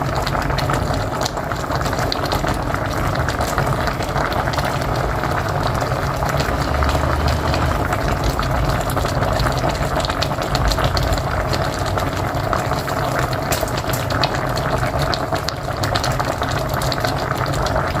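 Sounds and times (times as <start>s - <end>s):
pot boiling and bubbling: 0.0s - 18.0s.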